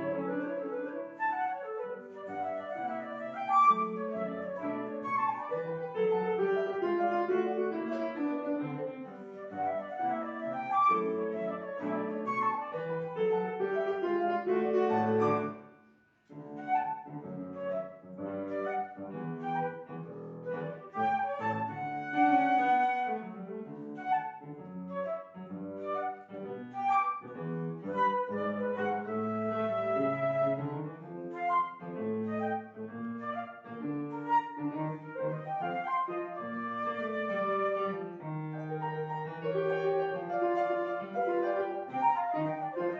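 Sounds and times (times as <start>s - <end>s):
flute and piano duet: 0.0s - 42.9s.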